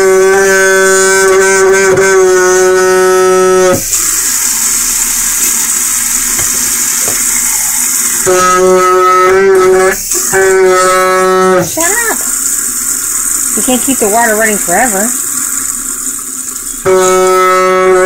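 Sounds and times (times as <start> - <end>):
faucet valve humming: 0.0 - 18.0
running water hiss: 3.5 - 18.0.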